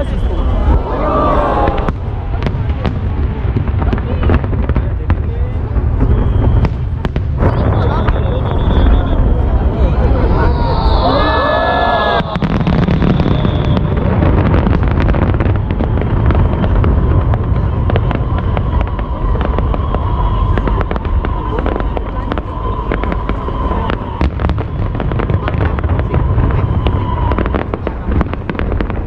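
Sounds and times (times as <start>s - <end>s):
fireworks crackling and popping: 0.0s - 29.0s
low fireworks booms: 0.0s - 29.0s.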